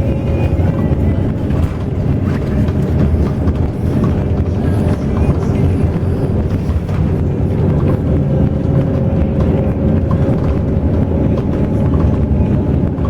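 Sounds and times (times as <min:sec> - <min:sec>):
bus engine drone: 0:00.0 - 0:13.0
road rumble: 0:00.0 - 0:13.0.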